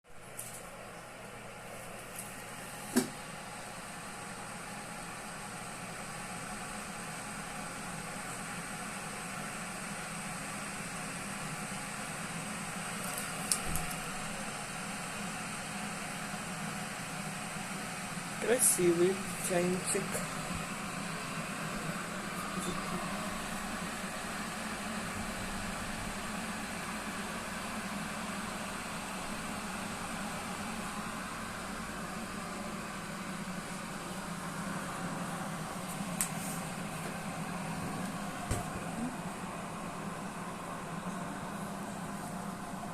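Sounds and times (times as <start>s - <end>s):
electric kettle hissing: 1.5s - 42.9s.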